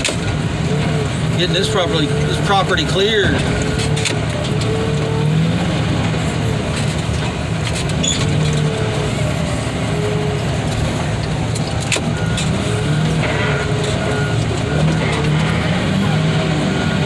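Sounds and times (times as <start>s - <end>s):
diesel machinery running: 0.0s - 17.0s.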